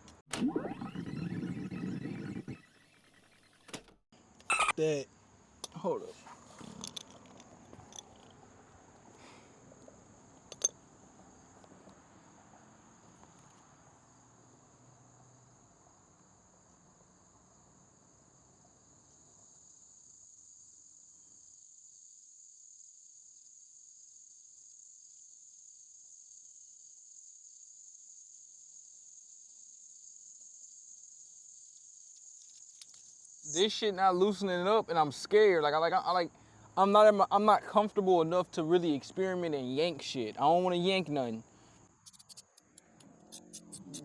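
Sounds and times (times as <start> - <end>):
crickets chirping: 4.6 - 44.0.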